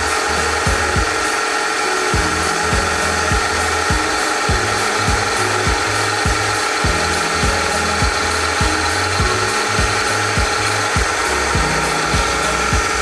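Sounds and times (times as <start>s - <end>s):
milling machine whining: 0.0s - 13.0s.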